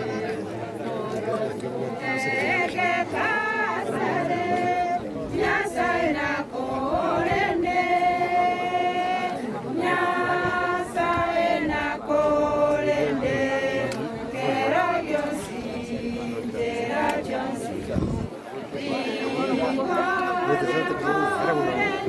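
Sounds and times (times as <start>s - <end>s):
group singing unaccompanied: 0.0s - 22.0s.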